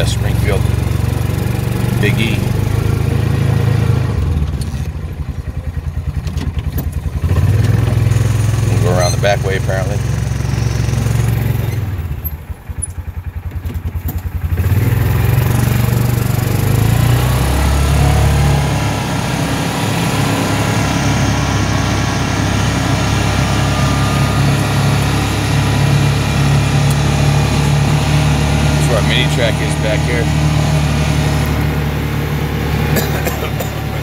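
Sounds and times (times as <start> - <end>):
vehicle engine running and idling: 0.0 - 34.0.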